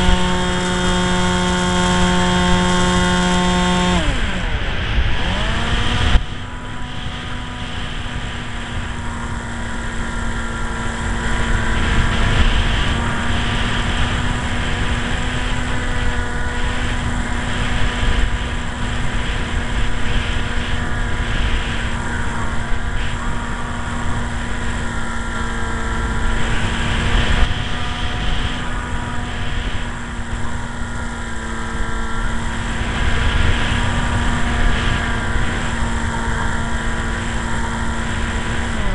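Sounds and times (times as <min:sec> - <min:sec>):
model airplane motor and propeller: 0:00.0 - 0:38.9
wind rumbling on microphone: 0:00.0 - 0:38.9.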